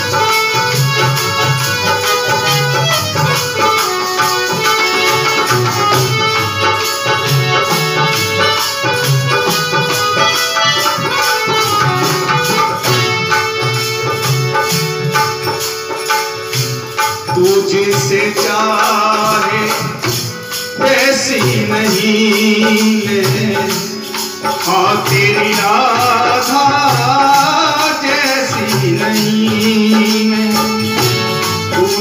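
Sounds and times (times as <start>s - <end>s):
hand drum rhythm: 0.0s - 32.0s
held melody line: 0.0s - 32.0s
jingling percussion: 0.0s - 32.0s.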